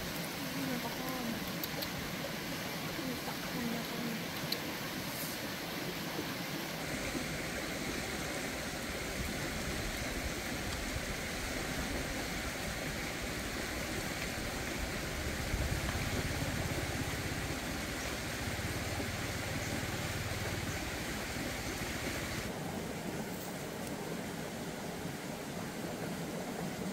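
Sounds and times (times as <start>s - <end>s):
steady rushing background noise: 0.0s - 26.9s.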